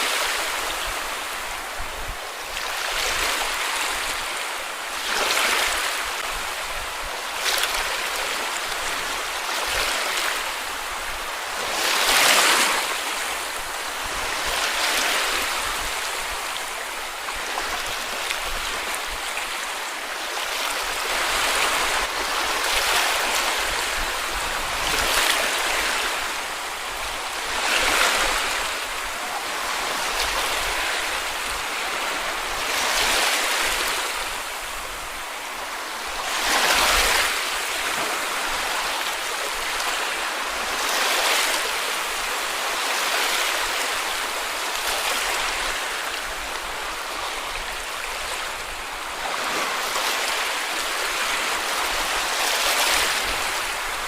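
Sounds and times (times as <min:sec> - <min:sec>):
sea waves washing on a beach: 0:00.0 - 0:54.0.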